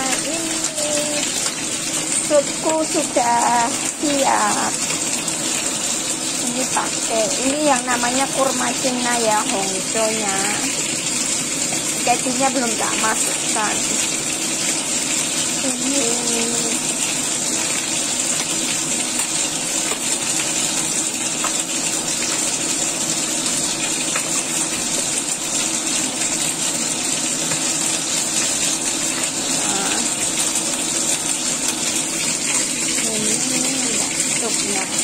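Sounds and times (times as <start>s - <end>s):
soup bubbling at a boil: 0.0s - 35.0s.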